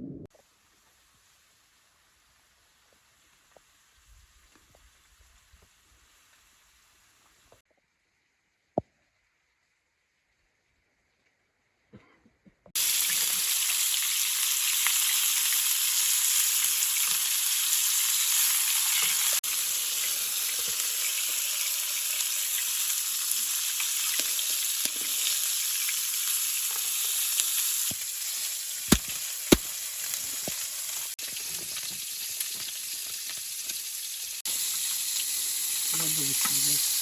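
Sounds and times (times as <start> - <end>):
food sizzling in a hot pan: 0.4 - 7.6, 12.8 - 37.0.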